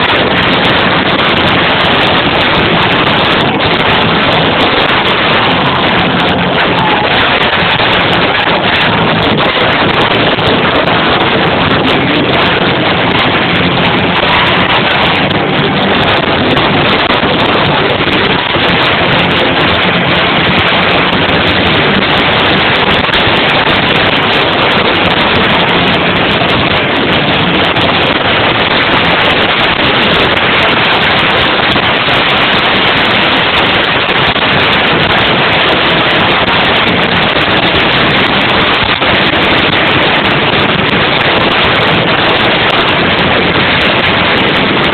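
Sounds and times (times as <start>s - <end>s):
distorted live rock band: 0.0s - 44.9s.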